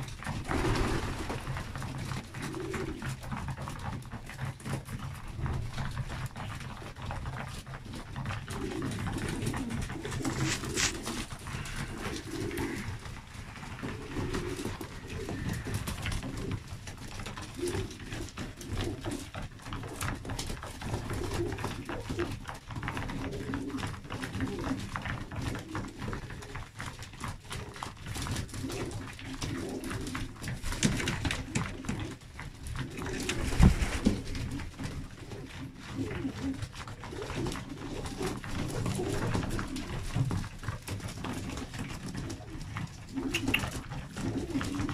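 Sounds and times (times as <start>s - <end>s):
beaks pecking on wooden trough: 0.0s - 44.9s
pigeons cooing: 0.0s - 44.9s.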